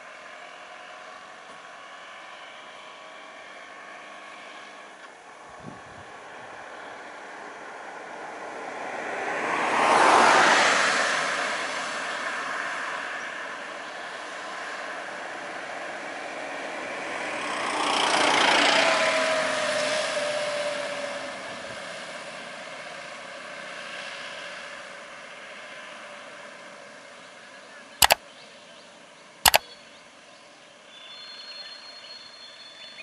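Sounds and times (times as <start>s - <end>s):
vehicles passing on a road: 0.0s - 28.0s.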